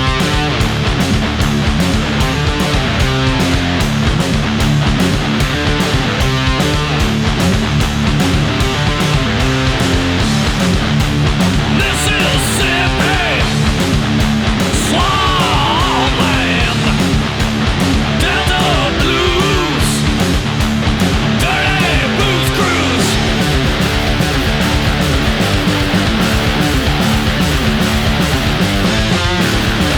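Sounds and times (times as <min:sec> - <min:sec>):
bass guitar: 0:00.0 - 0:29.9
bending guitar melody line: 0:00.0 - 0:29.9
distorted electric guitars: 0:00.0 - 0:29.9
drums: 0:00.0 - 0:29.9.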